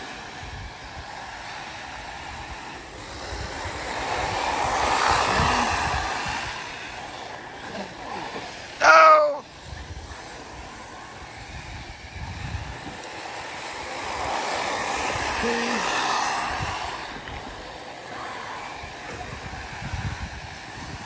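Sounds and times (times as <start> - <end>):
rc cars racing on dirt: 0.0 - 21.0.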